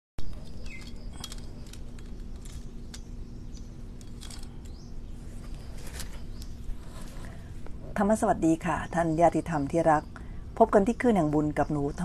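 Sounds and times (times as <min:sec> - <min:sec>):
low hum: 0:00.2 - 0:10.7.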